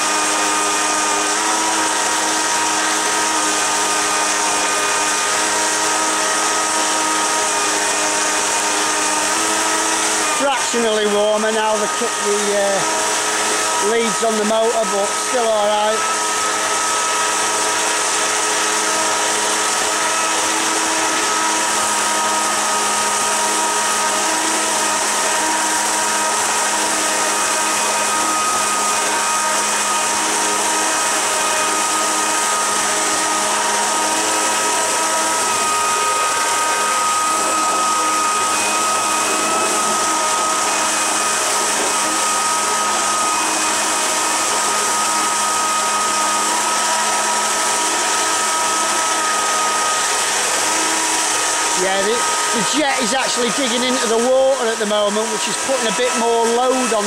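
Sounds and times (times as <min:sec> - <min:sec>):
motor and impeller whine: 0:00.0 - 0:57.0
water jet hissing: 0:06.9 - 0:46.6, 0:49.3 - 0:57.0.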